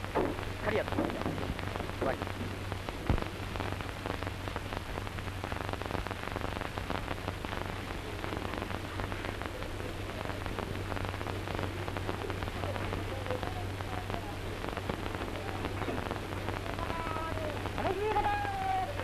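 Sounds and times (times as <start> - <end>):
film soundtrack crackle and hiss: 0.0 - 19.0
steady low hum: 0.0 - 19.0.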